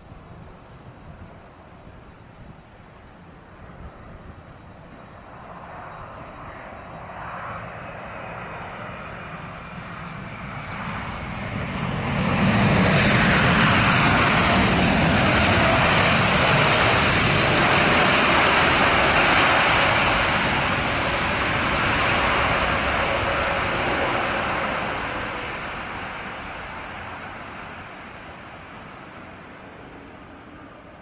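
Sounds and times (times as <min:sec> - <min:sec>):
jet engines in reverse thrust: 0:00.0 - 0:31.0.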